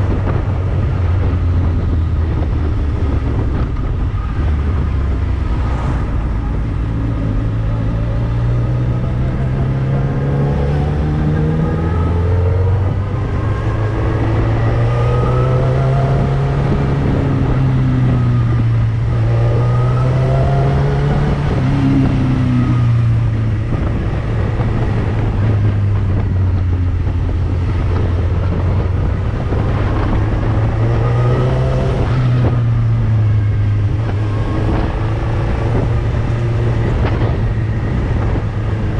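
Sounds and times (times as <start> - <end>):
motorcycle engine shifting gears: 0.0 - 38.9
road noise rushing: 0.0 - 38.9.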